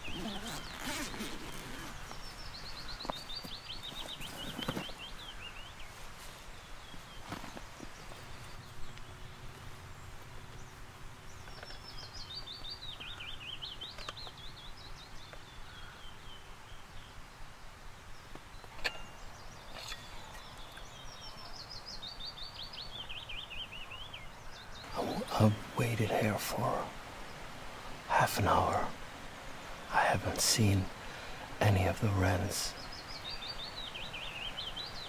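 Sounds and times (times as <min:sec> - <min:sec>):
warbler singing: 0:00.0 - 0:35.0.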